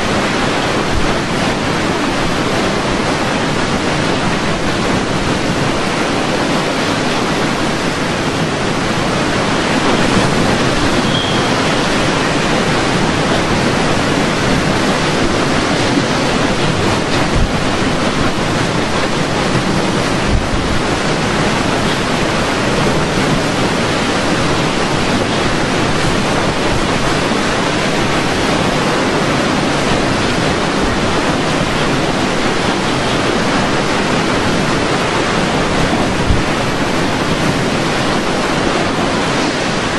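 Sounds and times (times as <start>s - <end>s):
strong wind rushing: 0.0s - 39.9s.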